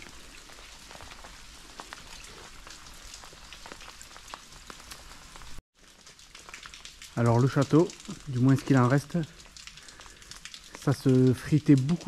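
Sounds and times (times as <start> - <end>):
rain falling steadily: 0.0 - 12.0
raindrops ticking sharply: 0.0 - 12.0.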